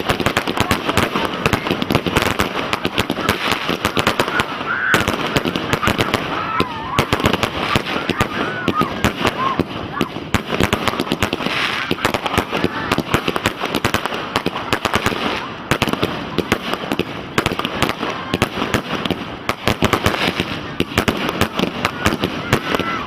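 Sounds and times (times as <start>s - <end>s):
fireworks banging and crackling: 0.0s - 23.0s.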